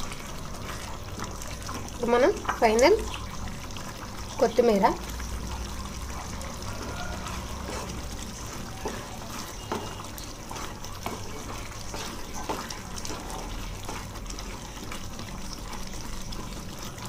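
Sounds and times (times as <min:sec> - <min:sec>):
curry bubbling in a pan: 0:00.0 - 0:17.0
wooden spatula stirring: 0:00.0 - 0:17.0.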